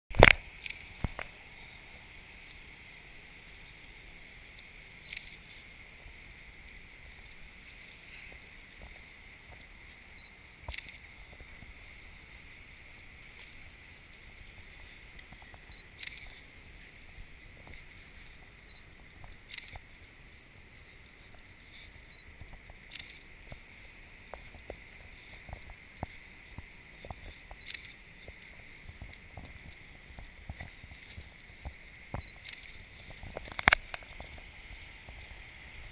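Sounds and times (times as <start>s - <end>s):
faint steady hiss: 0.1s - 35.9s.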